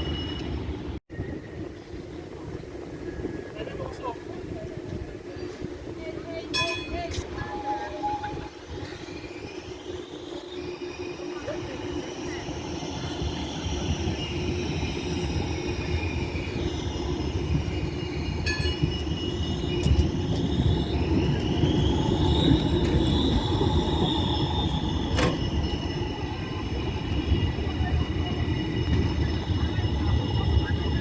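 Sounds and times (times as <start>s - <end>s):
tram whining tones: 0.0s - 3.6s, 4.2s - 31.0s
tram rumbling past: 0.0s - 31.0s.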